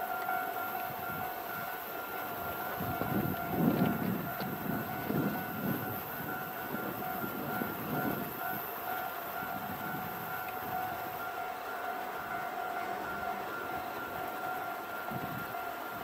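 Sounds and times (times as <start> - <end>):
diesel locomotive idling: 0.0 - 16.0
pulsing warning tone: 0.0 - 16.0.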